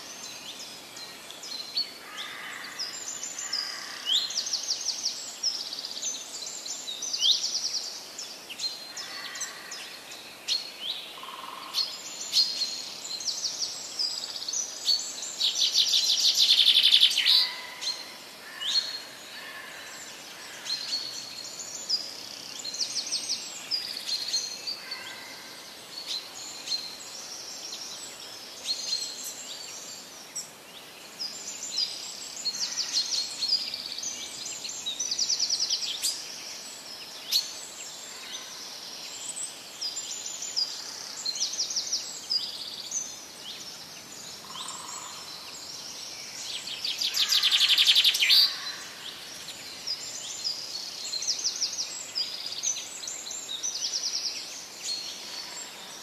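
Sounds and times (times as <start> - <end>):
faint steady hiss: 0.0 - 56.0
songbirds chirping and trilling: 0.0 - 56.0.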